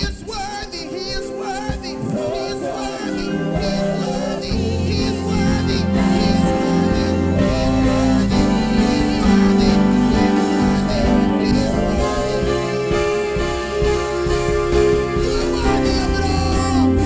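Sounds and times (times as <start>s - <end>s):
band playing worship music: 0.0s - 17.0s
singing: 0.0s - 17.0s.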